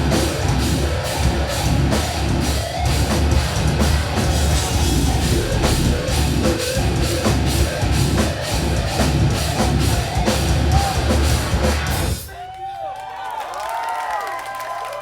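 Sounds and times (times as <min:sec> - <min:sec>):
pounding bass drum: 0:00.0 - 0:12.2
heavy metal band playing: 0:00.0 - 0:12.3.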